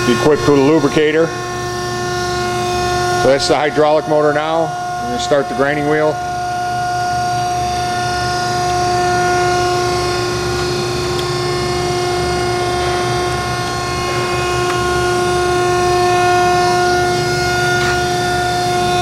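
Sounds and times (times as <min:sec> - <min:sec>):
grinder motor whine: 0:00.0 - 0:19.0.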